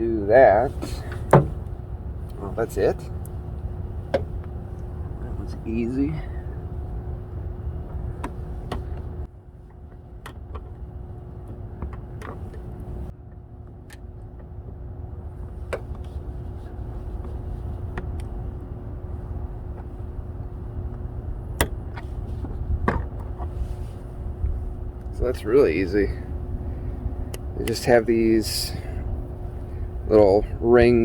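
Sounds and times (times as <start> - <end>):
faint steady hum: 0.0 - 31.0
steady low rumble: 0.0 - 31.0.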